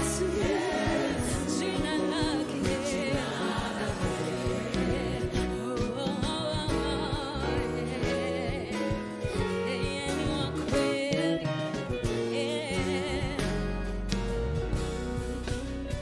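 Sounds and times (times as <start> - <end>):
person singing with vibrato: 0.0 - 13.6
band with bass and keyboard: 0.0 - 16.0.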